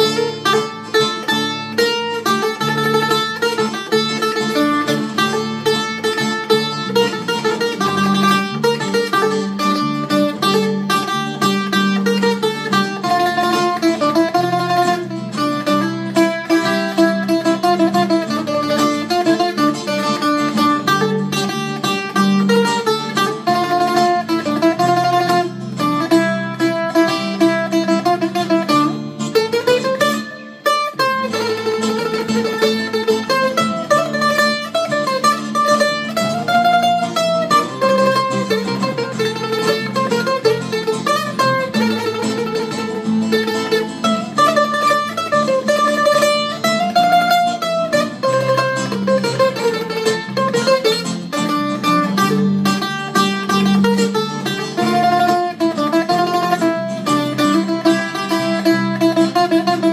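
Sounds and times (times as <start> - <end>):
bouzouki melody: 0.0 - 59.9.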